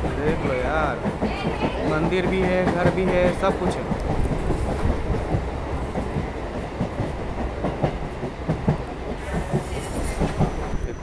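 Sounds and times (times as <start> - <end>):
train rumble: 0.0 - 11.0
train wheels clattering: 0.0 - 11.0.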